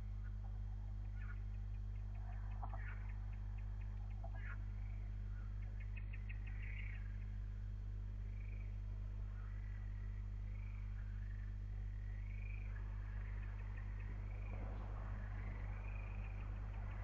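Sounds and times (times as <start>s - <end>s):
electrical mains hum: 0.0s - 17.0s
faint bird chirps and trills: 0.0s - 17.0s.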